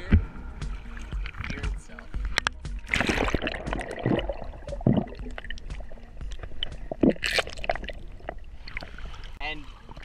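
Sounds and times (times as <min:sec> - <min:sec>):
sea water splashing and gurgling: 0:00.0 - 0:10.0.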